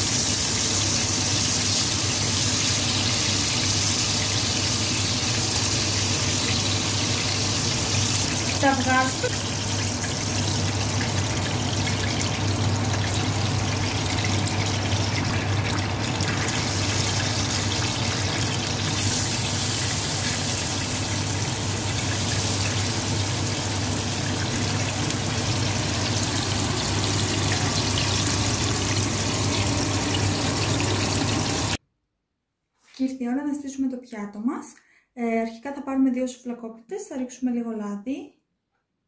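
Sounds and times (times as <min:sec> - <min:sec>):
fries frying in a pot: 0:00.0 - 0:31.8
meat sizzling in oil: 0:00.0 - 0:31.8.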